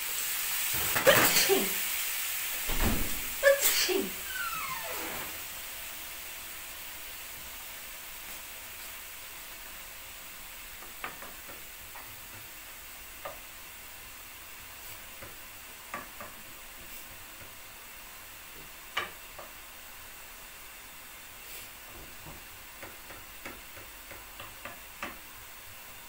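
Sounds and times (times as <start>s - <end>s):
vegetables sizzling in a frying pan: 0.0s - 26.0s.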